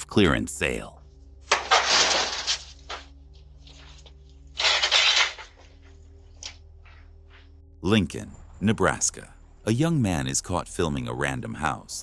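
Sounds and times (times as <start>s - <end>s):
steady electrical hum: 0.6s - 12.0s.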